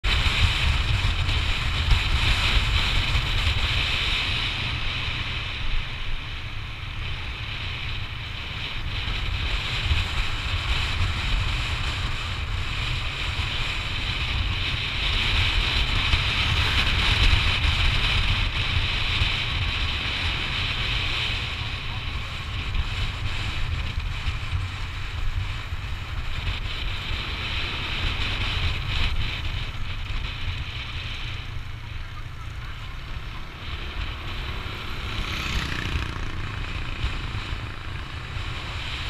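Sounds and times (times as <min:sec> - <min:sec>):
scooter riding noise: 0:00.0 - 0:39.0.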